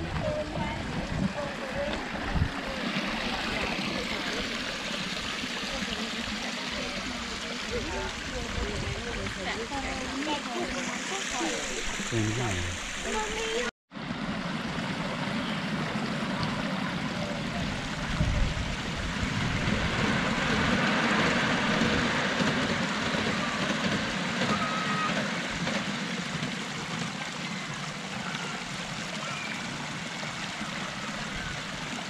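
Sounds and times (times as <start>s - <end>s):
miniature train rumbling: 0.0s - 32.0s
outdoor background noise: 0.0s - 32.0s.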